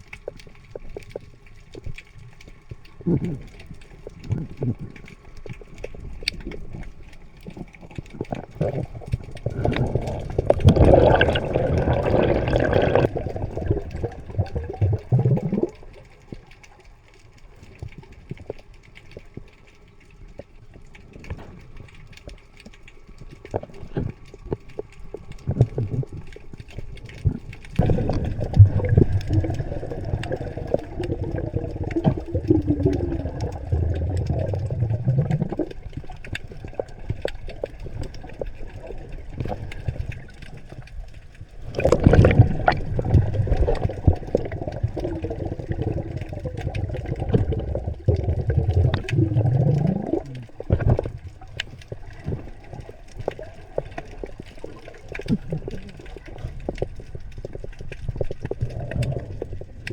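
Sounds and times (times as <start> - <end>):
underwater bubbling and gurgling: 0.0 - 59.9.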